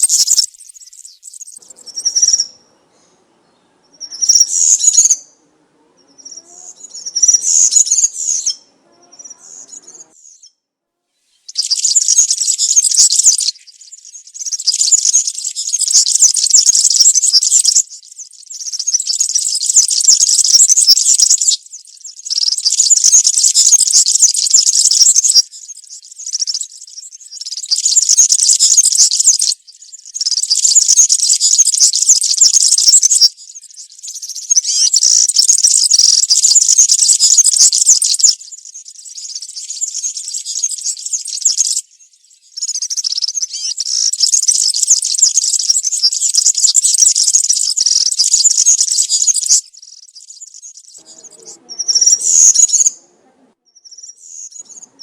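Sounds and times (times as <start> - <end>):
bird singing jingling phrases: 0.0 - 10.5, 11.4 - 53.0, 53.7 - 55.0.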